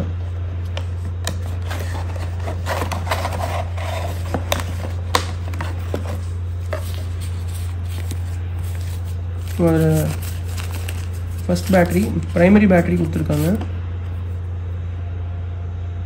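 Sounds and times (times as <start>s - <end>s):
steady low hum: 0.0s - 16.0s
cardboard rustling and clicking: 0.6s - 13.7s.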